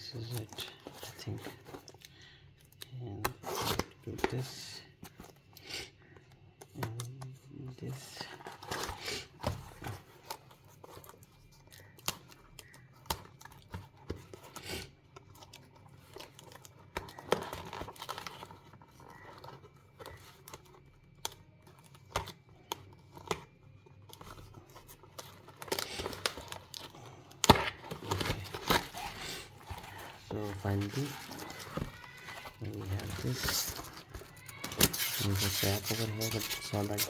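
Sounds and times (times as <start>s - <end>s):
packaging tearing and crinkling: 2.6s - 5.4s, 6.8s - 37.0s.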